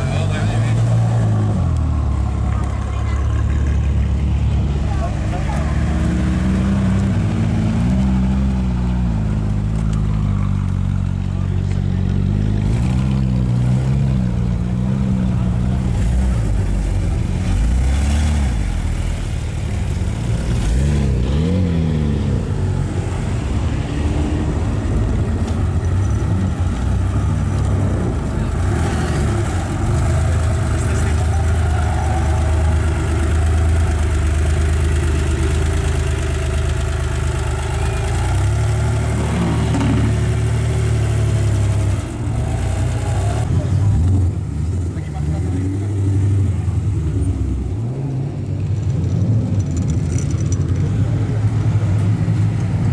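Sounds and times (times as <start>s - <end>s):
sports car engine revving: 0.0s - 48.5s.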